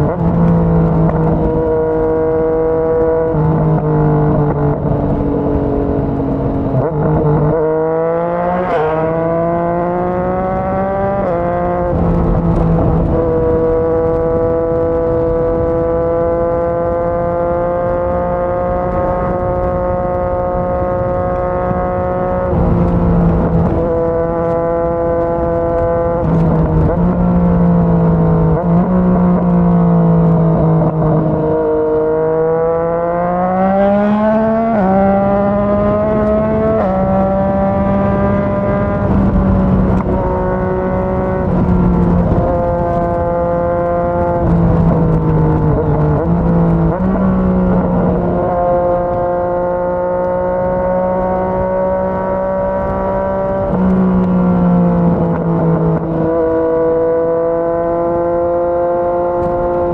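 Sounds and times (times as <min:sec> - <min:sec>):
motorcycle engine at road speed: 0:00.0 - 0:59.9.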